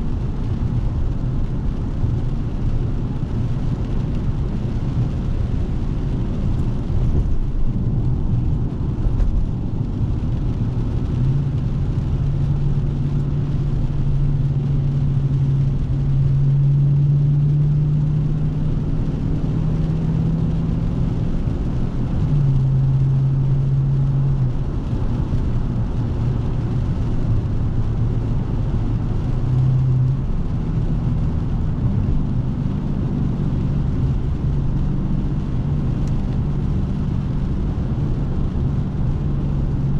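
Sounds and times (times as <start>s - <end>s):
car engine low drone: 0.0s - 39.9s.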